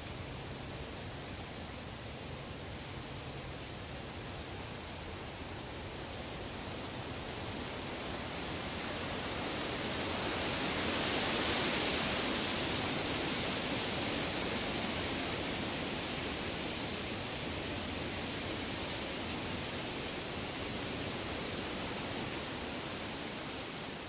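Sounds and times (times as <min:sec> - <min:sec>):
wind rushing through trees: 0:00.0 - 0:24.0.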